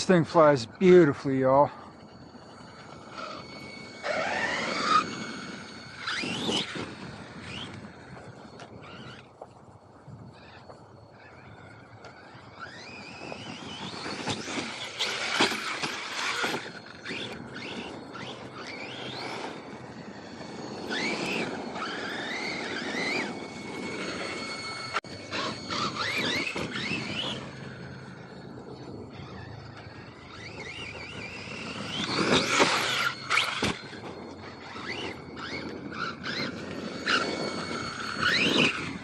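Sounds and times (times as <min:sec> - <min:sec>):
rc car motor whining: 0:00.0 - 0:39.0
tyres scrabbling over dirt: 0:03.1 - 0:09.5, 0:12.6 - 0:28.3, 0:29.2 - 0:39.0.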